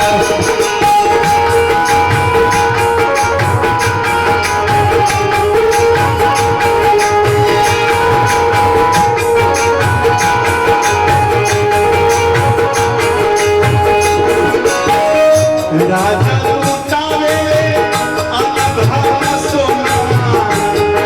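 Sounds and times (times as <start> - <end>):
hand drum beat: 0.0 - 21.0
held melody notes: 0.0 - 21.0
jingling percussion: 0.0 - 21.0.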